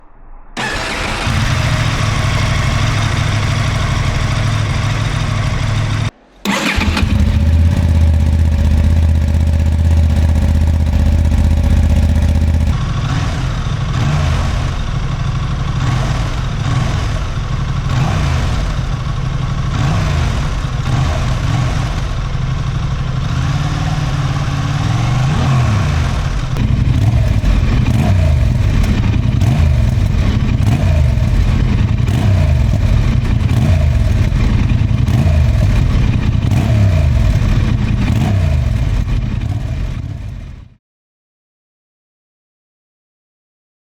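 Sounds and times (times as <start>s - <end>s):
motorcycle engine idling: 0.6s - 40.8s
motorcycle engine revving: 0.6s - 40.8s.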